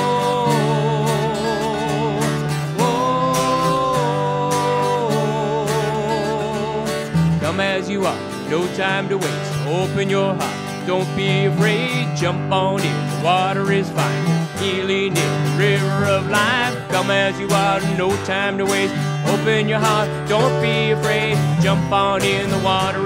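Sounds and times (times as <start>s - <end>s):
acoustic guitars strumming: 0.0s - 23.0s
person singing: 0.0s - 23.0s.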